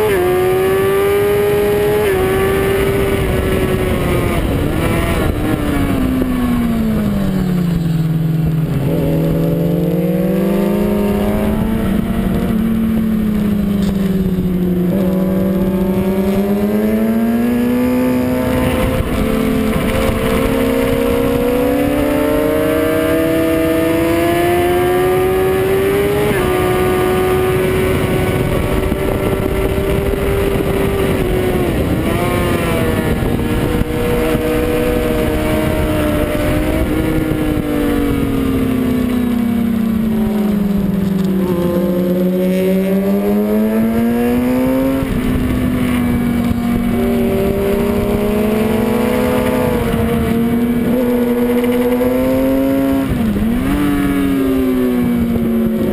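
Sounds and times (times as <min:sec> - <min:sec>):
motorcycle engine revving: 0:00.0 - 0:55.9
wind rushing: 0:00.2 - 0:55.9.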